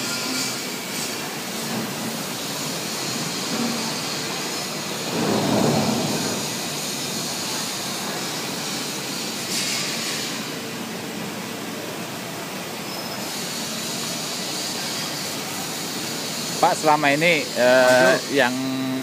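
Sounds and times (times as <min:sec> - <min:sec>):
mechanical noise of repair shed: 0:00.0 - 0:19.0.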